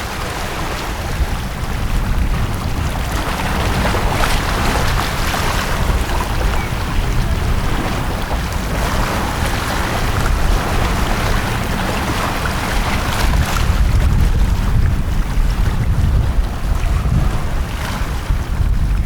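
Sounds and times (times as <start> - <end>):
sea waves washing ashore: 0.0 - 19.0.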